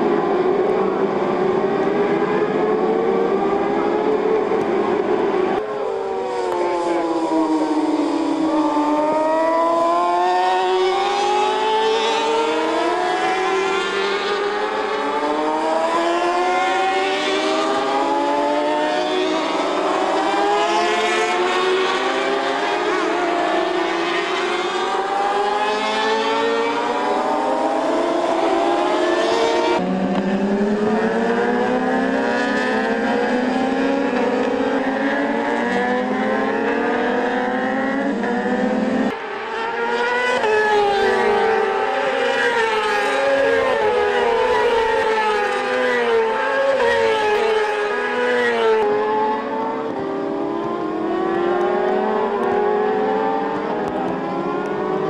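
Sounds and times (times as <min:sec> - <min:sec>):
racing motorcycles revving: 0:00.0 - 0:55.0.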